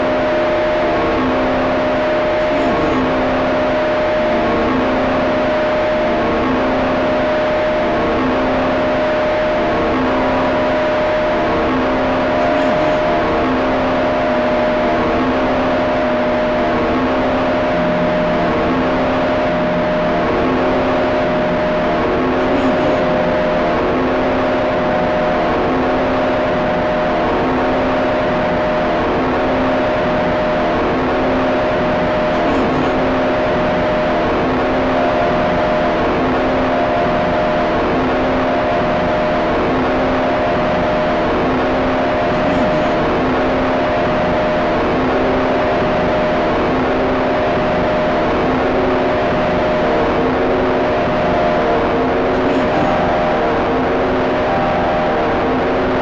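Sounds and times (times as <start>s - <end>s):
industrial machinery drone: 0.0s - 56.0s.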